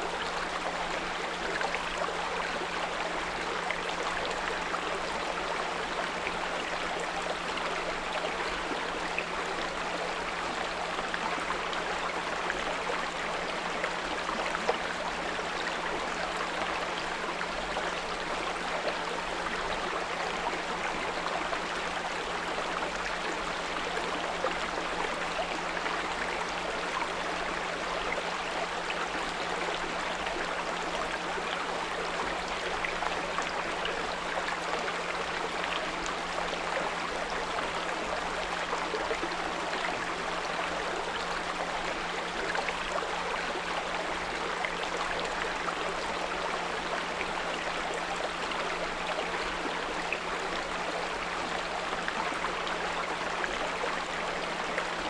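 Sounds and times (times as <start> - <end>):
brook flowing: 0.0 - 55.0.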